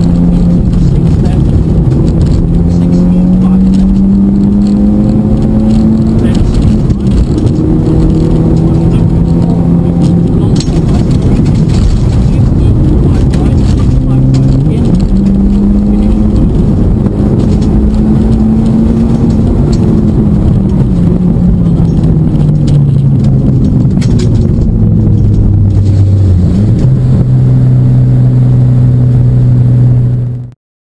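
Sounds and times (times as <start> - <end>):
car engine from inside: 0.0 - 30.5.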